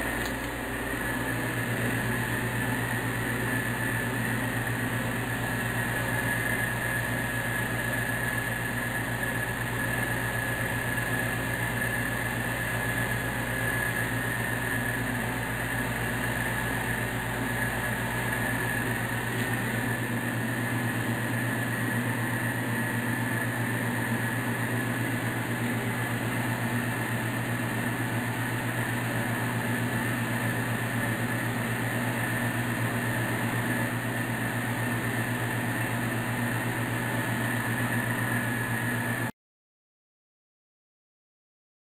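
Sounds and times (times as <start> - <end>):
machine hum with whine: 0.0 - 39.3.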